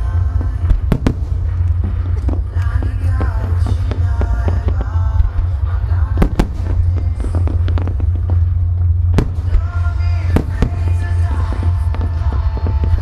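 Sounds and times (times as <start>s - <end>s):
firework crackling: 0.0s - 13.0s
music: 0.0s - 13.0s
steady low rumble: 0.0s - 13.0s
firework shells bursting: 0.2s - 13.0s.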